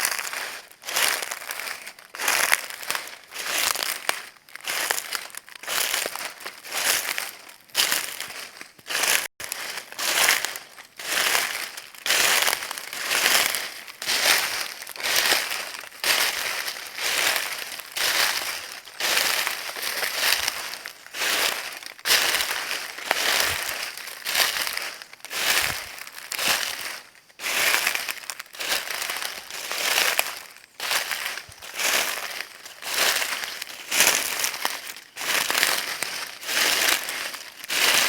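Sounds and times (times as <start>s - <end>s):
footsteps on dry leaves: 0.0s - 38.0s.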